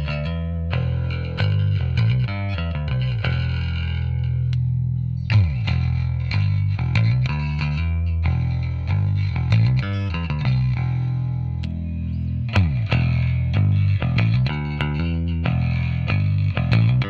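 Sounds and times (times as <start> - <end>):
plucked bass guitar notes: 0.0 - 17.0.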